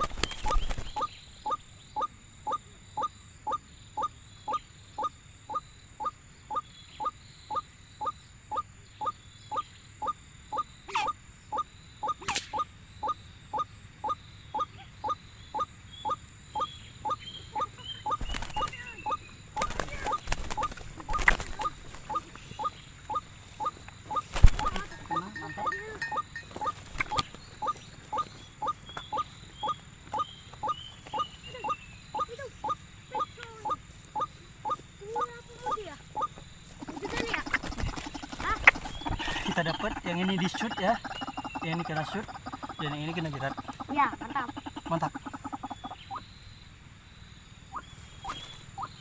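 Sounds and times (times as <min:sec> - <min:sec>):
waterhen calling: 0:00.0 - 0:07.6, 0:08.5 - 0:46.2.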